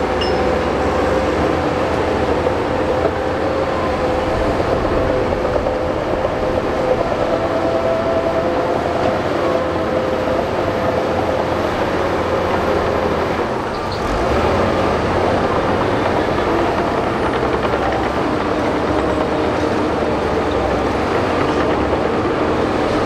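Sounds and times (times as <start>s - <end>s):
bulldozer diesel engine: 0.0s - 23.0s
tracks whining: 0.0s - 23.0s.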